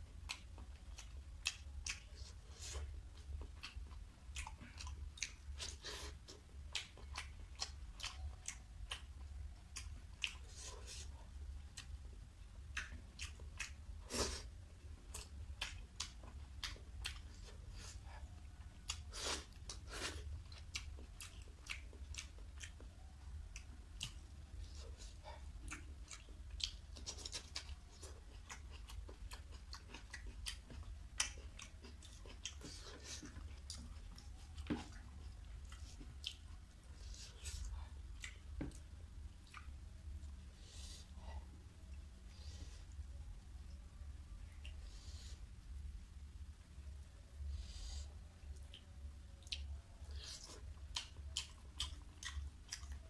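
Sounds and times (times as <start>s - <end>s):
person chewing food: 0.0s - 45.7s, 47.4s - 53.0s
steady low hum: 0.0s - 53.0s.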